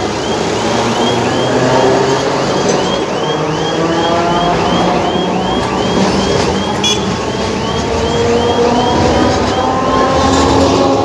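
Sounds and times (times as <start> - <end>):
tram motor whine: 0.0 - 11.0
wheels rumbling on rails: 0.0 - 11.0
electronic chirp: 0.1 - 10.2.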